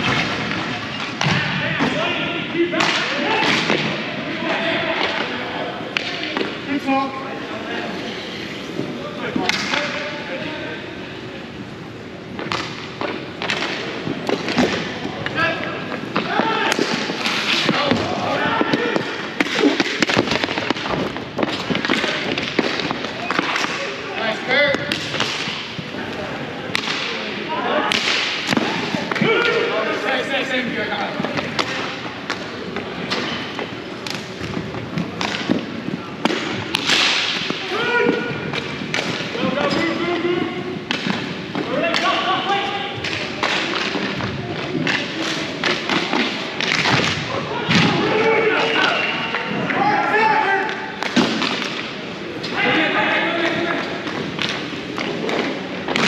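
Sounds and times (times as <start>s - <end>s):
background murmur: 0.0s - 56.0s
spectators' voices: 0.0s - 56.0s.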